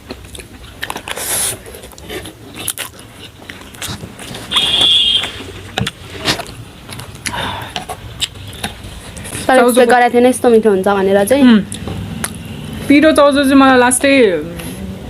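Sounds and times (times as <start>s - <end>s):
noodles chewed and slurped: 0.0s - 13.0s.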